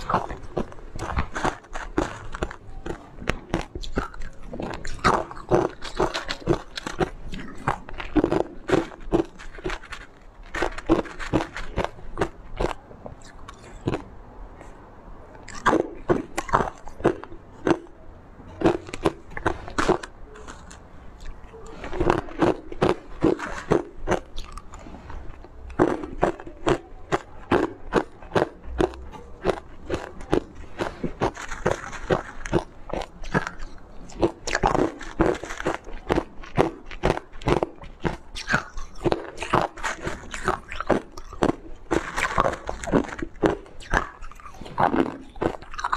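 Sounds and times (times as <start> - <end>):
ice crunching between teeth: 0.0 - 14.1, 15.4 - 18.0, 18.6 - 45.9.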